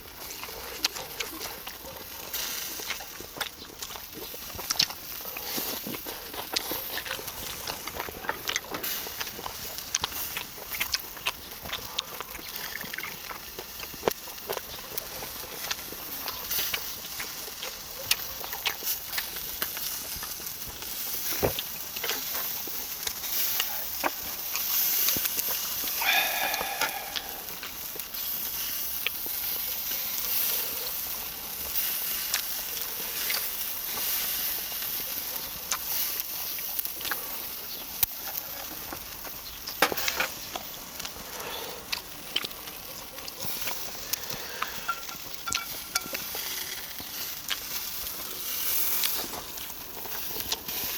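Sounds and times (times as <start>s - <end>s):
skewers sizzling over charcoal: 0.0s - 50.9s.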